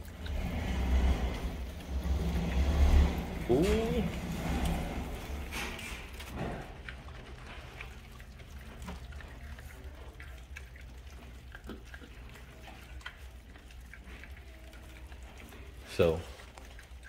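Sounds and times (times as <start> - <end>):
puppies chewing meat: 0.0 - 17.0.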